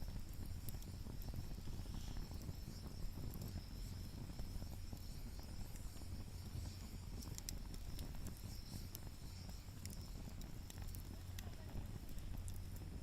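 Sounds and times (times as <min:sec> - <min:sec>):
fire popping and ticking: 0:00.0 - 0:13.0
wood fire crackling: 0:00.0 - 0:13.0.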